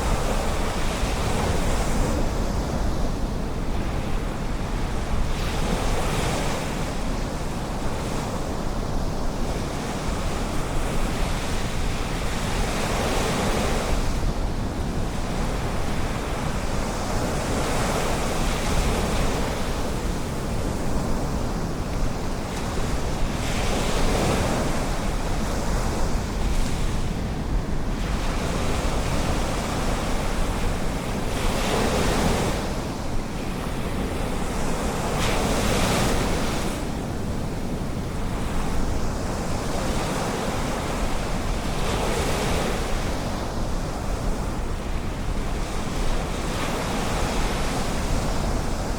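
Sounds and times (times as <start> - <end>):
wind rumble on microphone: 0.0 - 48.9.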